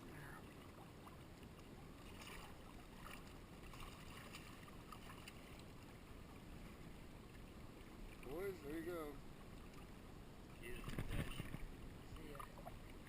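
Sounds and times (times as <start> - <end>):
soft short splashes: 0.0 - 6.0, 6.6 - 13.0
flowing river water: 0.0 - 13.0.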